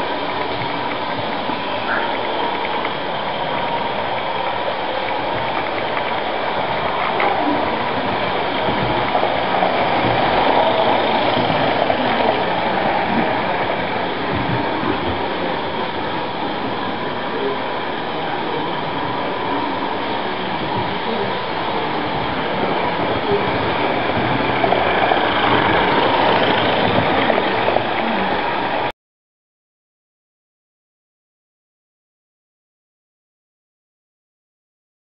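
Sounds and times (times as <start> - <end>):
model steam locomotive running: 0.0 - 28.9.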